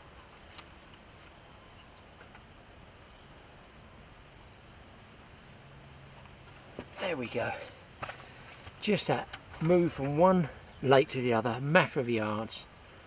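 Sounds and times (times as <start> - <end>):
faint outdoor background hiss: 0.0 - 13.0.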